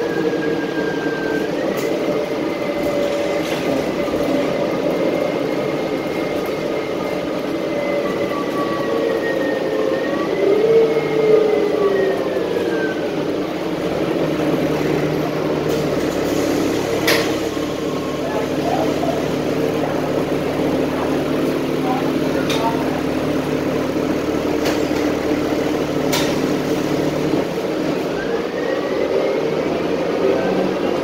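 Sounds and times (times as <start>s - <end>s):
bus drivetrain rumble: 0.0s - 31.0s
bus whine: 0.0s - 31.0s.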